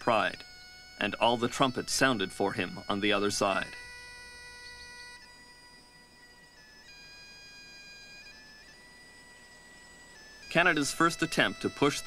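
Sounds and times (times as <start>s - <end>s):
slow melody of held high notes: 0.0s - 12.0s.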